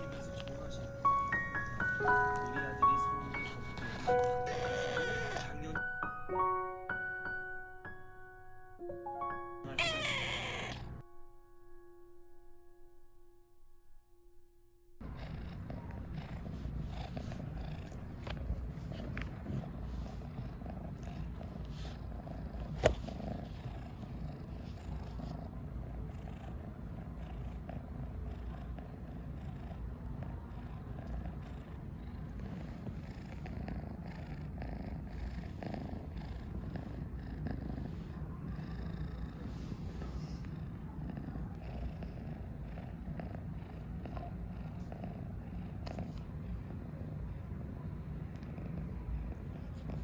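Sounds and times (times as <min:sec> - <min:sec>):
cat purring: 0:00.0 - 0:05.8, 0:15.0 - 0:50.0.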